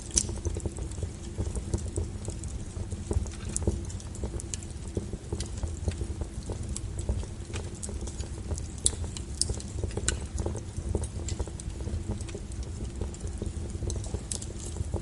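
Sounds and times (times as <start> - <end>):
firewood fire crackling: 0.0 - 15.0.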